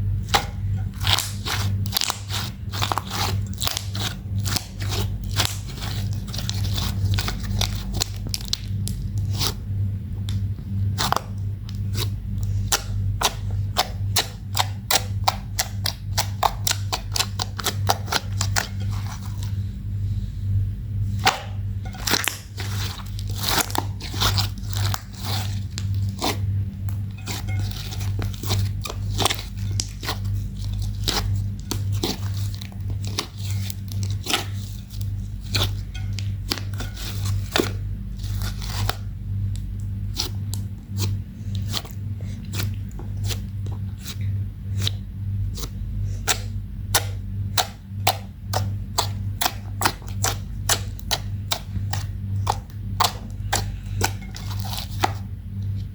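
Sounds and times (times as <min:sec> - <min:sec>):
steady low hum: 0:00.0 - 0:55.9
slime squished by hand: 0:00.2 - 0:09.6, 0:10.3 - 0:19.6, 0:21.1 - 0:55.9.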